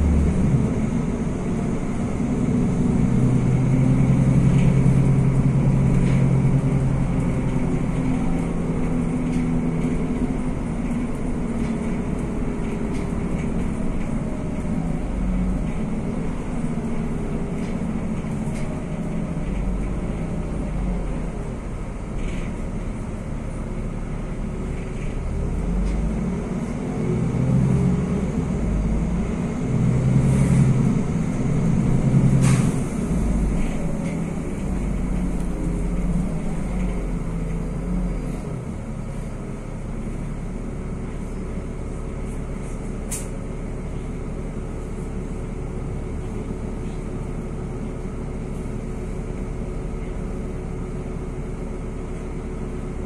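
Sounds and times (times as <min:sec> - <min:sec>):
bus engine and road noise: 0:00.0 - 0:53.0.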